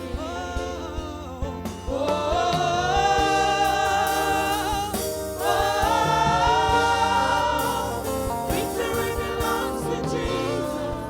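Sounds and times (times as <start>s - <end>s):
band with bass and drums: 0.0s - 11.0s
choir singing long notes: 1.6s - 11.0s.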